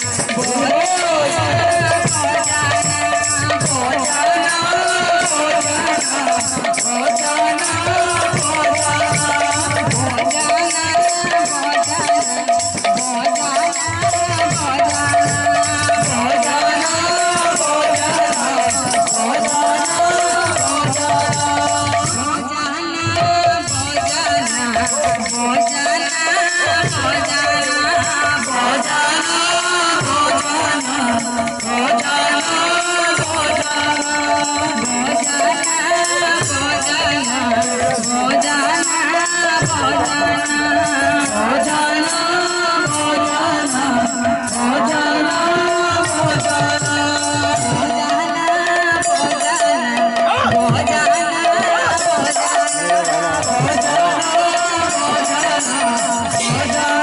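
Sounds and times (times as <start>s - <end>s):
barrel drum: 0.0s - 57.0s
handheld cymbals striking: 0.0s - 57.0s
woman singing devotional song: 0.0s - 57.0s.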